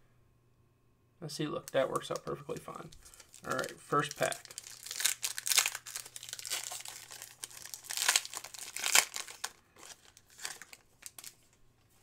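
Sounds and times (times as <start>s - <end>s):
plastic wrapper crinkling and tearing: 1.6s - 11.6s.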